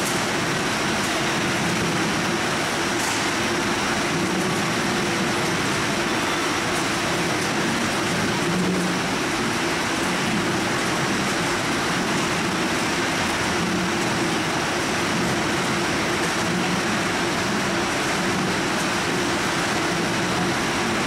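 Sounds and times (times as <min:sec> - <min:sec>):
conveyor machinery din: 0:00.0 - 0:21.0.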